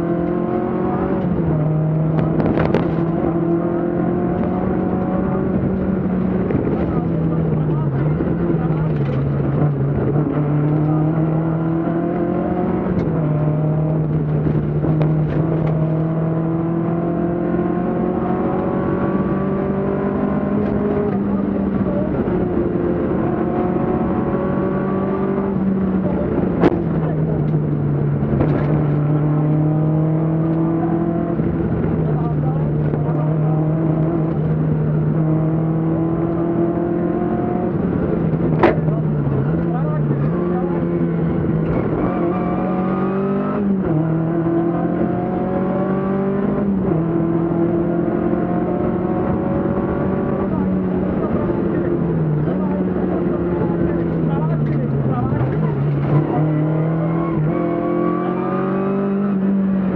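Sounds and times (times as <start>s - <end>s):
car engine accelerating hard: 0.0s - 59.9s
road and wind noise: 0.0s - 59.9s.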